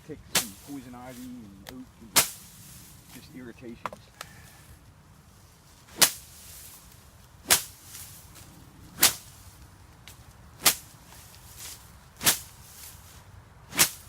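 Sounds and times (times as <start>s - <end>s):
sapling swishing through grass: 0.0s - 14.0s.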